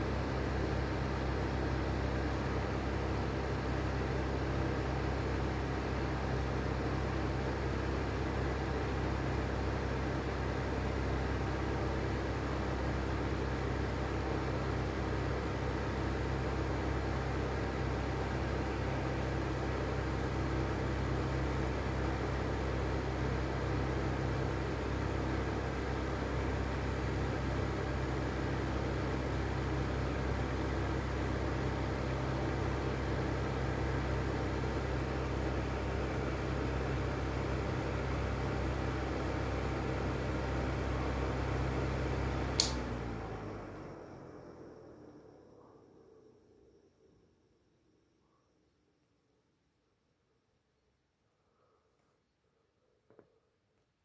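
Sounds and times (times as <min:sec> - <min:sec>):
exhaust fan hissing and humming: 0:00.0 - 0:47.4.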